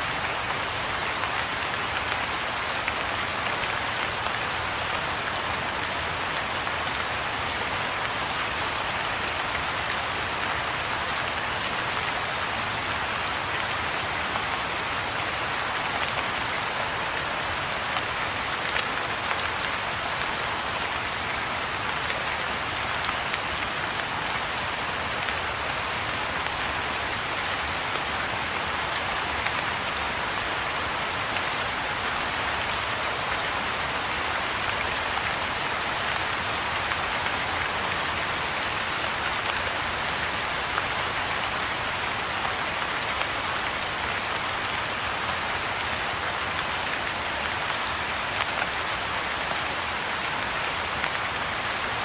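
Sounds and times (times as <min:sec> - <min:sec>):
soft rain on pond and grass: 0:00.0 - 0:52.0.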